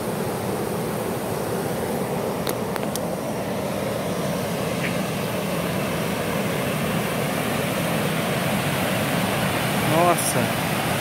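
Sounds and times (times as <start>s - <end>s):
water rushing over a weir: 0.0s - 11.0s.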